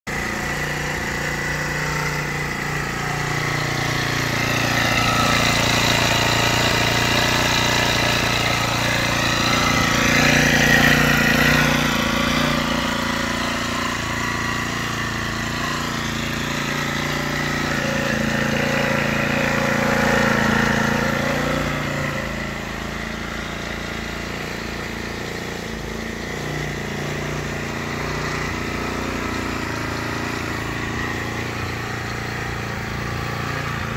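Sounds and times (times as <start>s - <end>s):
small engine idling: 0.0s - 33.9s.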